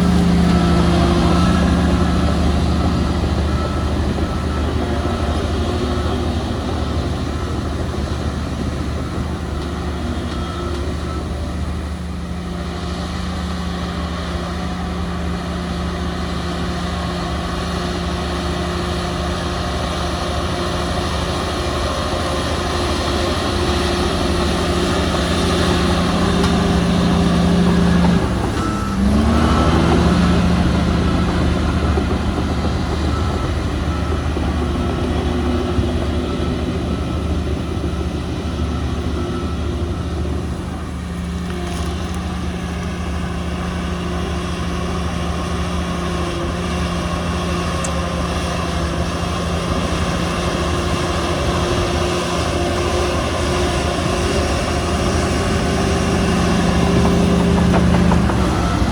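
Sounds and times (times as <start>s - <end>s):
heavy diesel machinery running: 0.0s - 58.9s
reversing alarm beeping: 0.0s - 58.9s.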